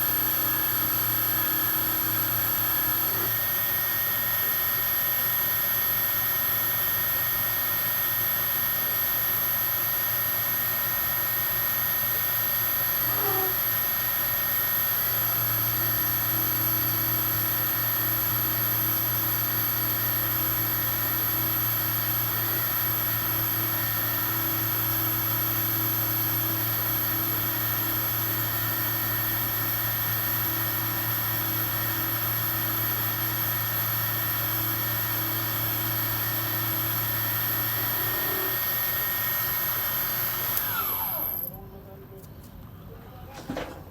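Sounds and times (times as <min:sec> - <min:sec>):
lathe motor hum and whine: 0:00.0 - 0:41.6.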